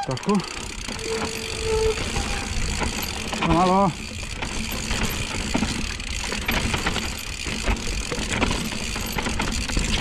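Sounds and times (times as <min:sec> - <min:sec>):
bike rattling and clicking: 0:00.0 - 0:10.0
tyres rumbling on dirt: 0:00.2 - 0:10.0.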